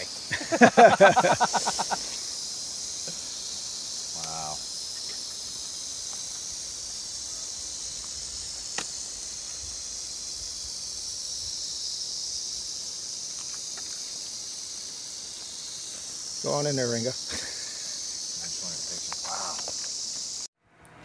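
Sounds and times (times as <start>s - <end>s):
rattlesnake rattling: 0.0s - 20.5s.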